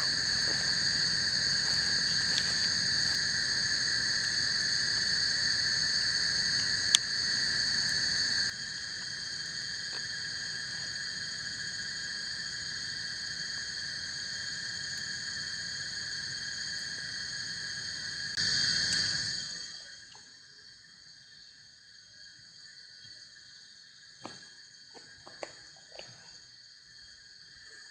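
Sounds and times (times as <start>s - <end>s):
insect chorus: 0.0s - 27.9s.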